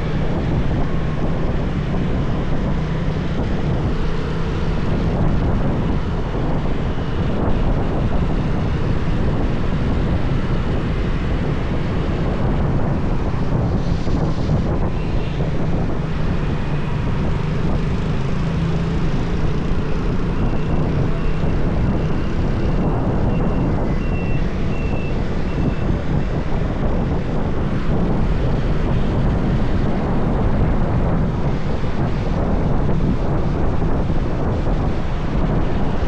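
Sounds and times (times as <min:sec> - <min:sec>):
motorbike and road noise: 0:00.0 - 0:36.0
wind rush on microphone: 0:00.0 - 0:36.0.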